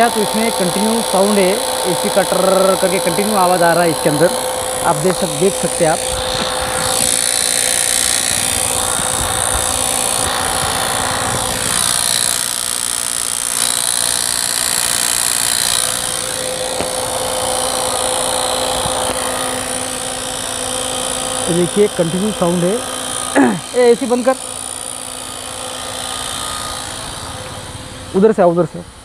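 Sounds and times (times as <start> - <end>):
car engine running: 0.0 - 28.3
ac compressor whirring: 0.0 - 29.0.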